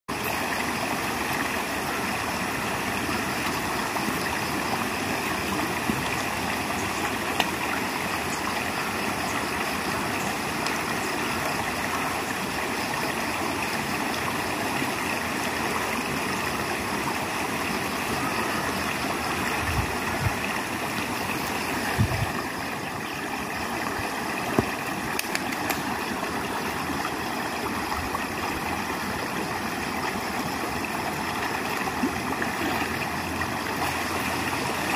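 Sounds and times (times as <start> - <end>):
river rushing over stones: 0.1 - 34.9.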